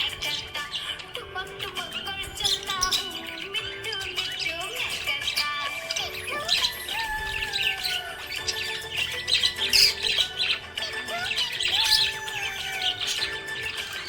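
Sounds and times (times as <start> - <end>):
background music with held tones: 0.0 - 14.0
budgerigar chirping: 0.0 - 14.0.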